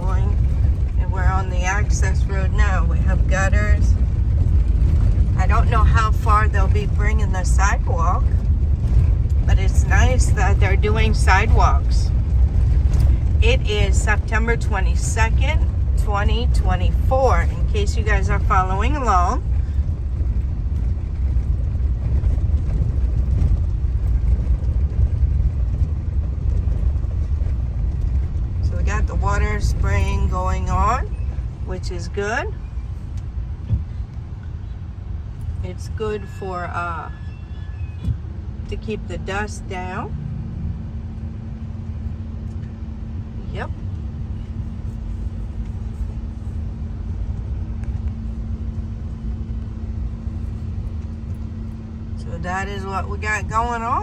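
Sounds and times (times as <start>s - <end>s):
steady hum: 0.0s - 54.0s
vehicle driving on dirt road: 0.0s - 54.0s.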